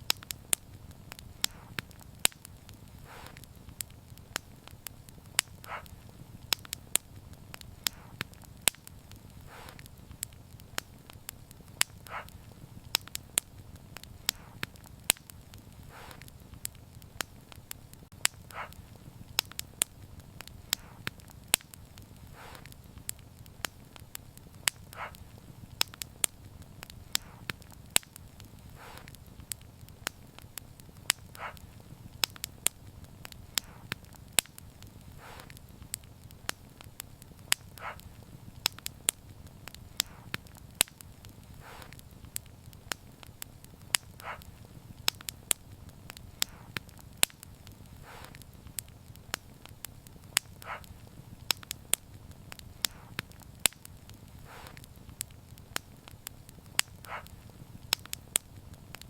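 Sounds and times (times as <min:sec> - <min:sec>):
low fire rumble: 0:00.0 - 0:59.0
soft fire hiss: 0:00.0 - 0:59.0
wood fire crackling and popping: 0:00.0 - 0:59.0.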